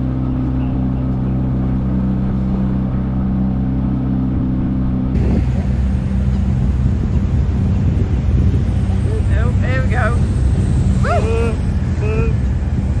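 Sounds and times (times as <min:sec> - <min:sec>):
motorboat engine humming: 0:00.0 - 0:13.0
wind on microphone: 0:00.0 - 0:13.0.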